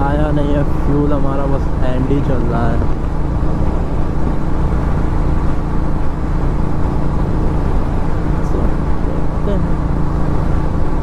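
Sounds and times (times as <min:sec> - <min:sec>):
motorcycle engine cruising: 0:00.0 - 0:11.0
wind and road rush: 0:00.0 - 0:11.0.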